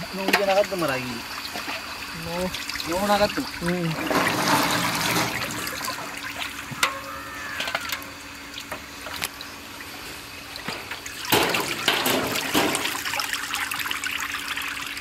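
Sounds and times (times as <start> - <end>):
water sloshing and splashing: 0.1 - 6.9, 7.6 - 15.0.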